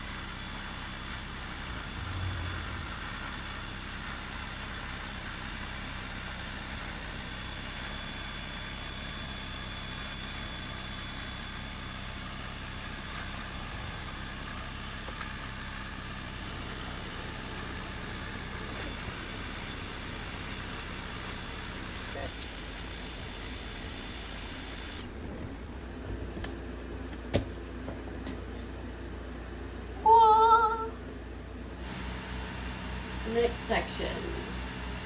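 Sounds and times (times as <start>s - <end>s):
laser engraver fans whirring: 0.0s - 30.9s, 31.5s - 35.0s.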